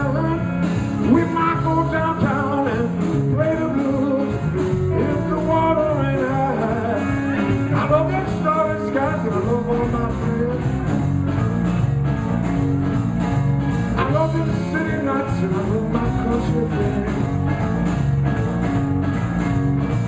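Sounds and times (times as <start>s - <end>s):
bass: 0.0s - 20.0s
bending sliding lead notes: 0.0s - 20.0s
blues band playing: 0.0s - 20.0s
drums keeping a steady beat: 0.0s - 20.0s.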